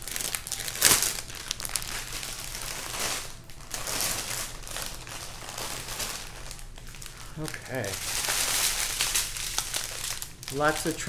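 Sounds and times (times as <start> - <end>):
paper and plastic rustling: 0.0 - 11.0.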